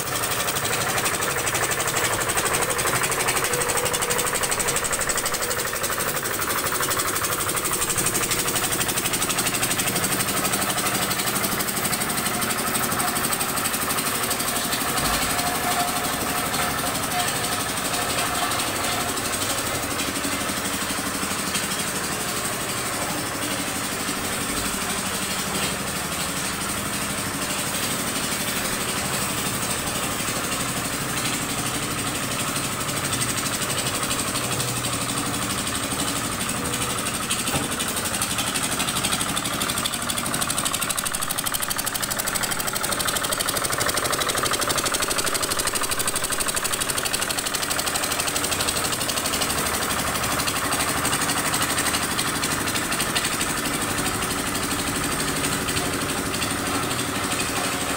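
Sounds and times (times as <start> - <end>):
road roller engine drone: 0.0 - 57.9.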